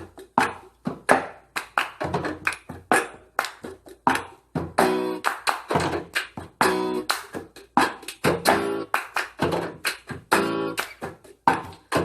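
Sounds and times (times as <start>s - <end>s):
recorded children's song: 0.0s - 12.0s.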